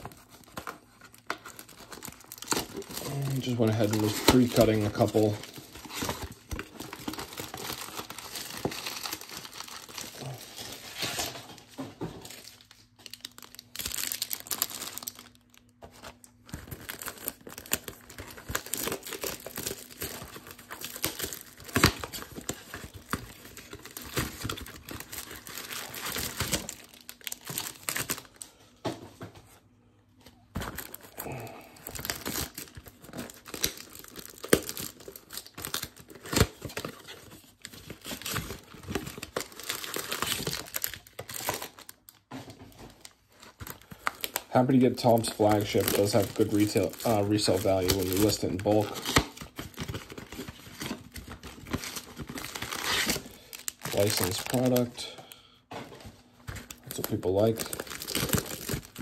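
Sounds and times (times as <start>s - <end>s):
plastic wrapping crinkling and tearing: 0.0s - 28.6s, 30.3s - 59.0s.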